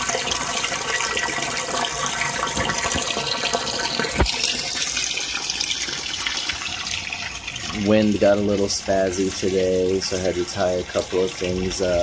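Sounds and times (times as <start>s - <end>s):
water pouring into tank: 0.0s - 12.0s.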